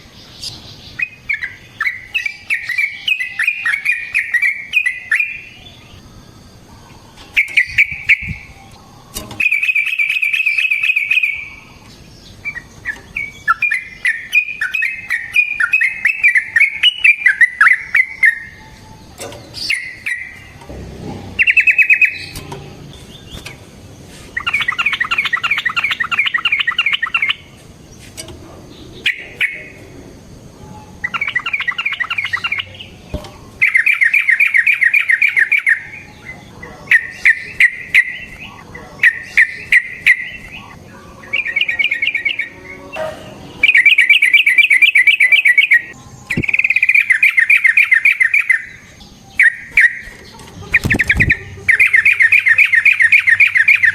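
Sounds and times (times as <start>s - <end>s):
bird singing rolling chatter: 0.0s - 53.9s.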